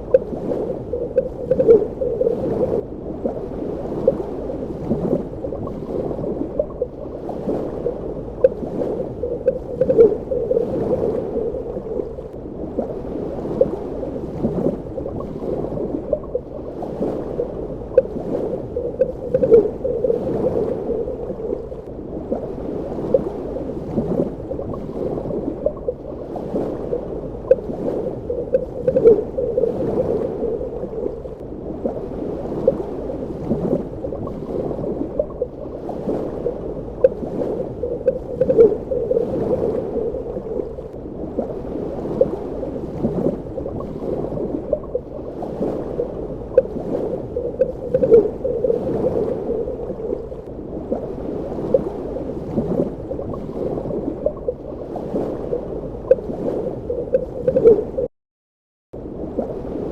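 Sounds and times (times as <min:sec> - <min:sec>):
muffled underwater rush: 0:00.0 - 0:58.1.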